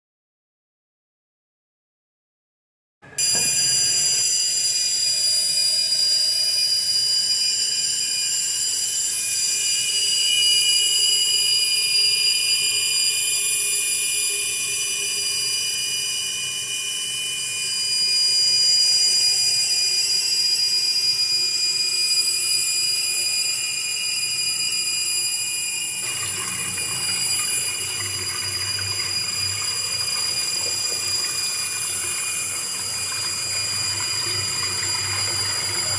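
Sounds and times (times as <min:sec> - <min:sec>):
toilet fill valve whistling: 0:03.0 - 0:35.9.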